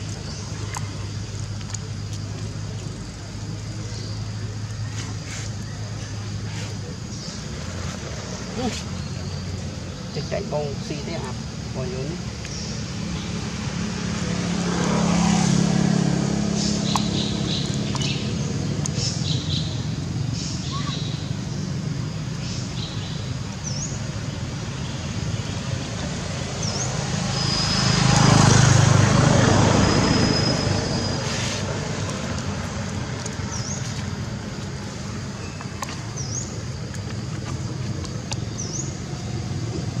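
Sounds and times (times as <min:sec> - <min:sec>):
distant road traffic rumble: 0:00.0 - 0:40.0
low engine hum: 0:00.0 - 0:40.0.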